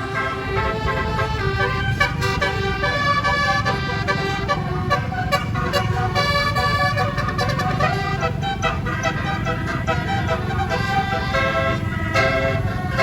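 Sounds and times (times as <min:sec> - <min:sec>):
bus engine running: 0:00.0 - 0:13.0
musical air horn playing tune: 0:00.0 - 0:13.0.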